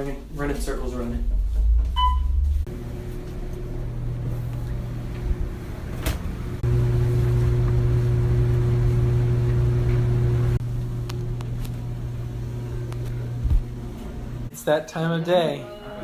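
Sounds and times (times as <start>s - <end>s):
low machine hum: 0.3s - 14.5s.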